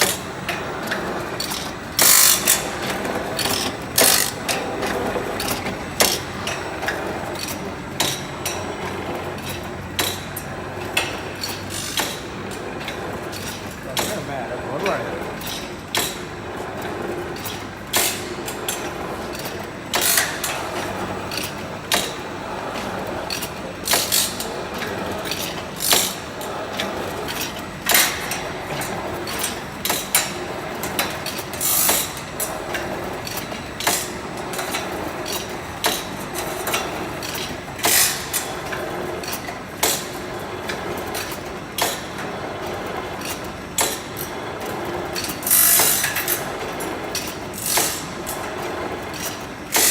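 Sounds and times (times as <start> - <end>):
grinding machine clacking: 0.0 - 49.9.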